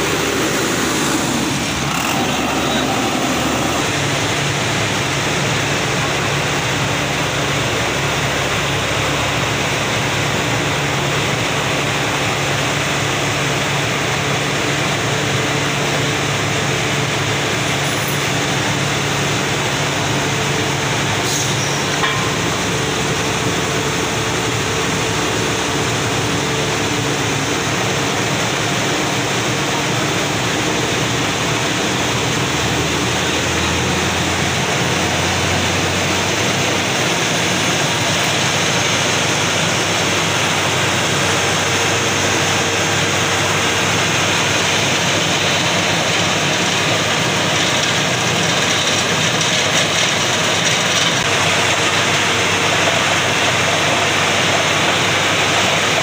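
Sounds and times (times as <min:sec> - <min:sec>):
drilling machine running: 0:00.0 - 0:10.6, 0:11.2 - 0:56.0.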